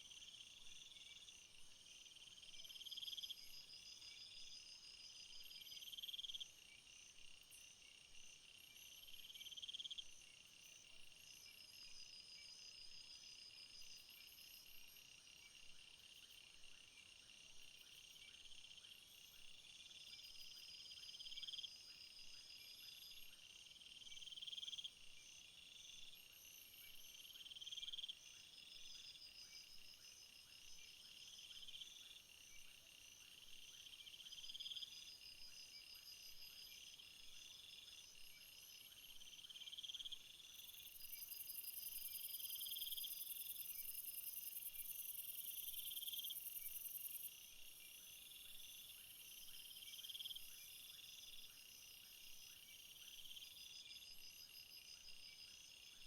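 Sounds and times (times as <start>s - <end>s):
field insects chirping: 0.0s - 56.0s.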